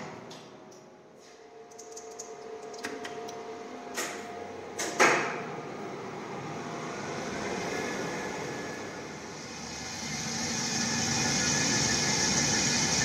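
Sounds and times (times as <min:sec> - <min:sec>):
lift motor whine and hum: 0:00.0 - 0:13.0.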